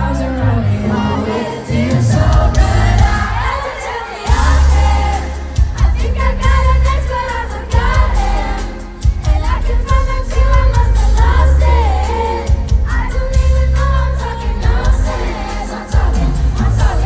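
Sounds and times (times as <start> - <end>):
amplified pop music with singing: 0.0 - 17.0
crowd singing along: 0.0 - 17.0.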